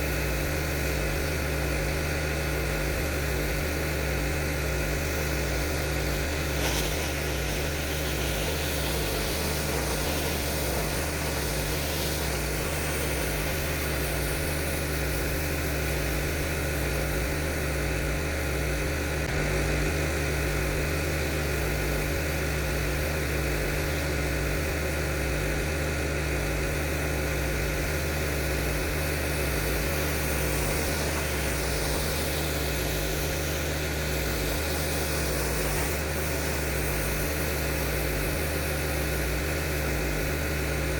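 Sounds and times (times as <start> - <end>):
gas engine running steadily: 0.0 - 40.9
high-pressure water spray hiss: 0.0 - 40.9.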